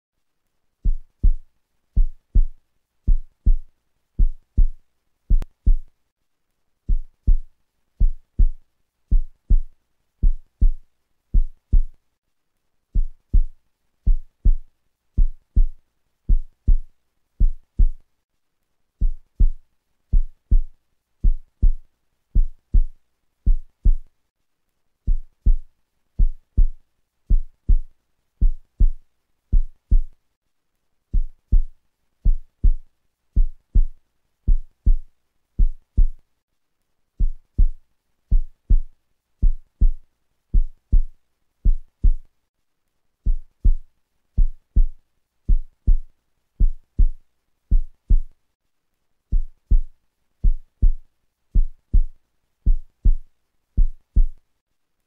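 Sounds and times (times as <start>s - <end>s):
heartbeat thumps: 0.8s - 5.9s, 6.9s - 12.0s, 12.9s - 18.0s, 19.0s - 24.1s, 25.1s - 30.2s, 31.1s - 36.2s, 37.2s - 42.3s, 43.2s - 48.4s, 49.3s - 54.4s.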